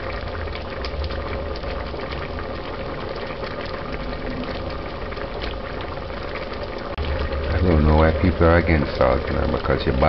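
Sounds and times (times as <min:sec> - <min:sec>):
stew boiling and bubbling: 0:00.0 - 0:10.0.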